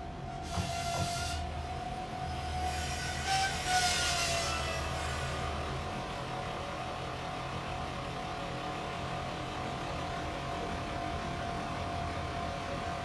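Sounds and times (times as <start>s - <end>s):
diesel railcar engine rumble: 0.0s - 13.0s.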